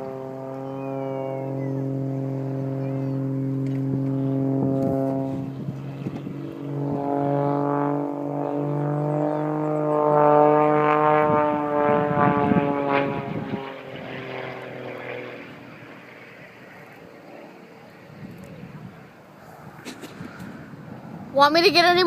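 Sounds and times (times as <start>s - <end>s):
propeller airplane flying past: 0.0s - 22.0s.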